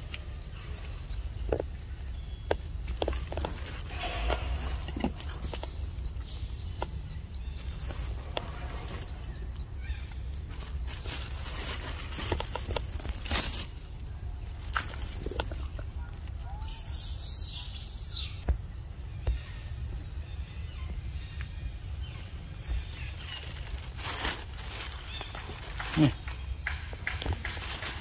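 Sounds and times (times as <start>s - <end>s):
rustling of leaves and undergrowth: 0.0s - 28.0s.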